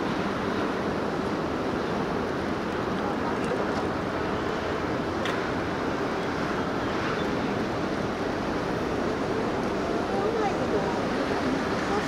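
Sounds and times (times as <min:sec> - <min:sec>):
water: 0:00.0 - 0:12.0.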